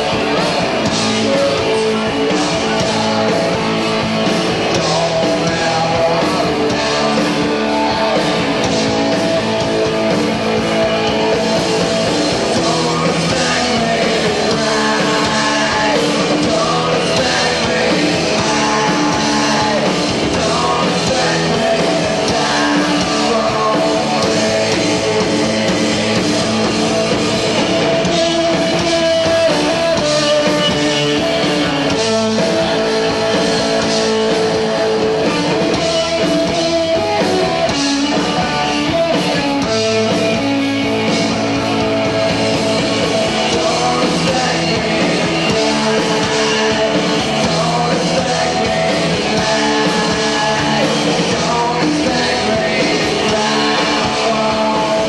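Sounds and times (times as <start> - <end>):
live rock band: 0.0 - 55.0
person singing: 0.0 - 55.0.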